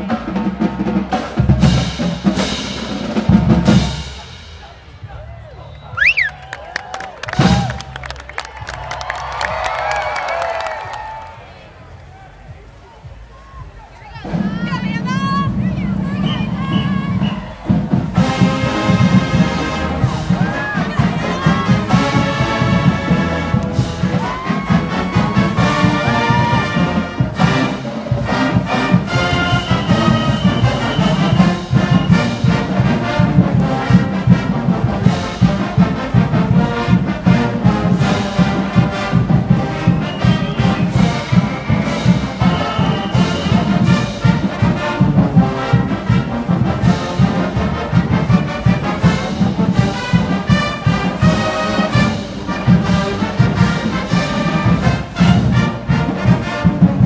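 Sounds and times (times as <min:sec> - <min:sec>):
drum beat: 0:00.0 - 0:11.3, 0:12.5 - 0:57.0
marching band brass tune: 0:00.0 - 0:57.0.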